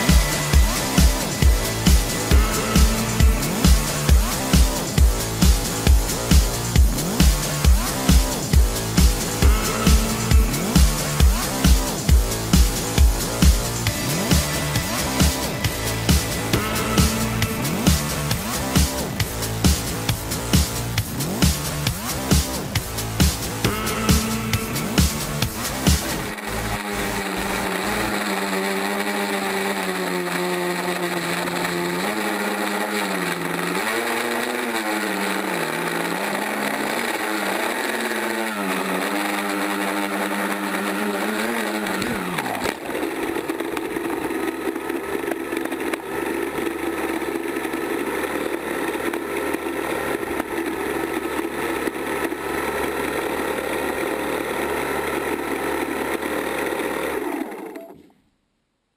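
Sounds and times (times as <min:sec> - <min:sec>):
drone motors whining: 0:00.0 - 0:58.1.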